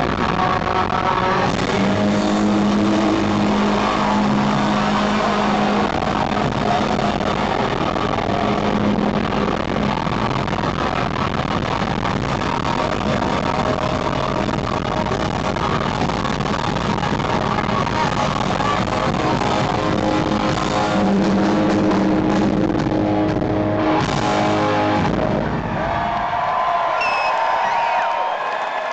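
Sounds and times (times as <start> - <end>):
live hard rock band: 0.0 - 26.0
distorted electric guitar: 0.0 - 26.1.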